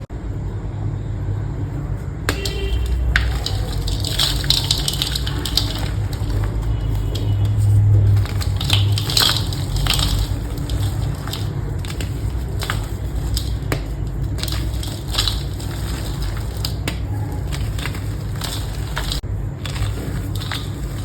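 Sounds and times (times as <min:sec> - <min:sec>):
chalk being crushed and crunching: 0:02.3 - 0:21.0.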